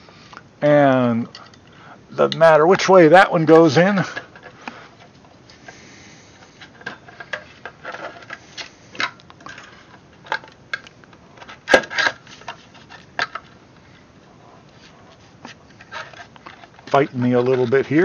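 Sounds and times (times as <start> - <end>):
hands handling plastic parts: 1.3 - 18.0.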